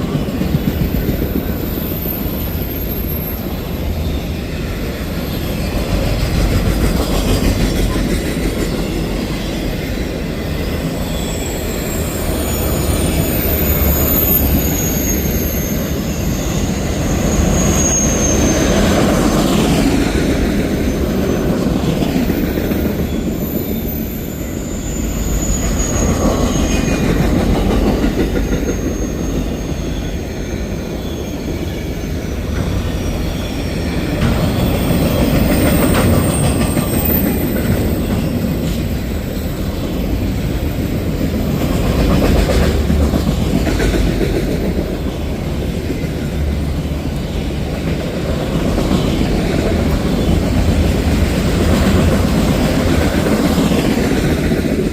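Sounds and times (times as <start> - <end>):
high wheel squeal: 0.0 - 54.9
train wheels rumbling on rail: 0.0 - 54.9.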